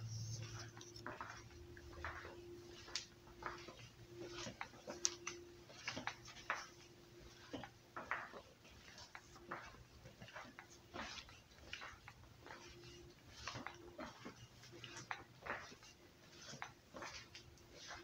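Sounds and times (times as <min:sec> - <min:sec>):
steady low hum: 0:00.0 - 0:18.0
faint clicks and taps: 0:00.3 - 0:18.0.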